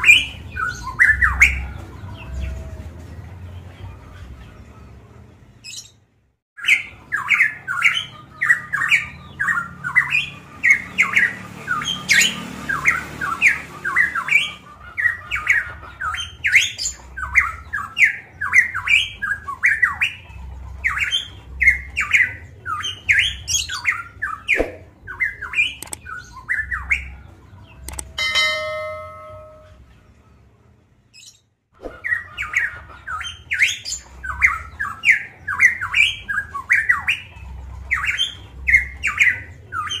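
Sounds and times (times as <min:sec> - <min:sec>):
bird chattering song: 0:00.0 - 0:02.7, 0:05.6 - 0:06.0, 0:06.6 - 0:29.9, 0:31.2 - 0:40.0.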